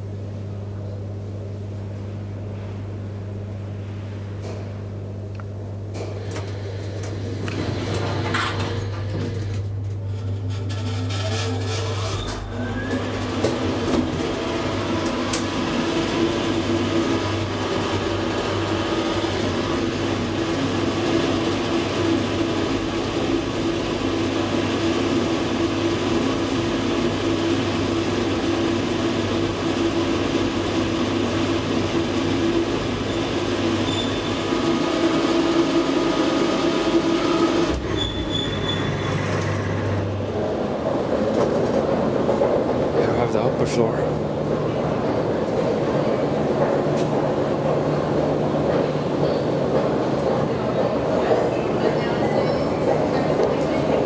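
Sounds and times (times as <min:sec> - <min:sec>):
elevator running hum: 0:00.0 - 0:54.0
elevator doors sliding open: 0:05.9 - 0:43.6, 0:44.2 - 0:54.0.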